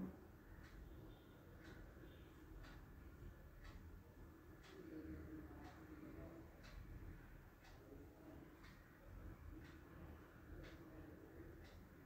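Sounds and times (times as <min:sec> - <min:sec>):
faint ticking: 0:00.0 - 0:12.0.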